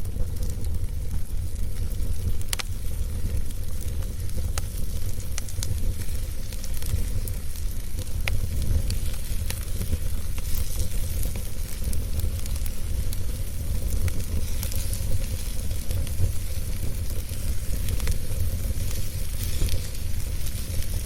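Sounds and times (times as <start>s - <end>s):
burning wood crackling and popping: 0.0s - 21.0s
wood fire roaring: 0.0s - 21.0s.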